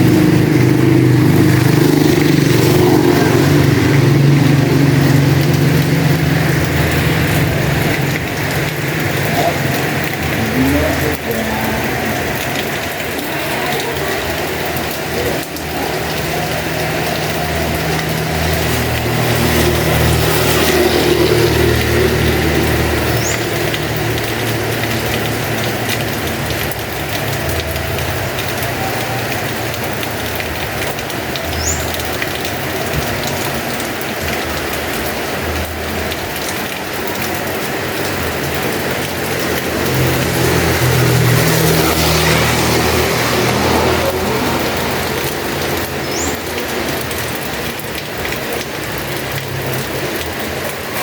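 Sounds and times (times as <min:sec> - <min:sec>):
heavy rain falling: 0:00.0 - 0:51.0.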